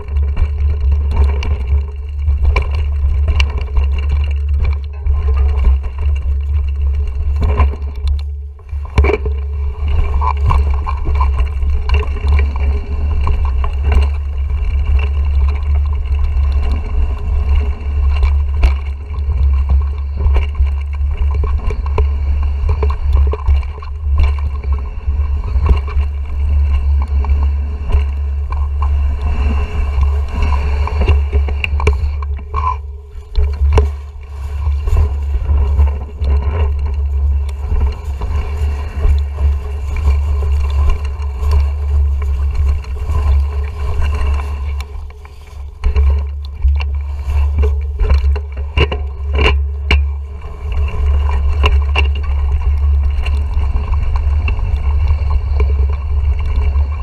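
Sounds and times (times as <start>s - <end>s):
bike clicks and rattles: 0.0s - 57.0s
bike rumbling on rocky trail: 0.0s - 57.0s.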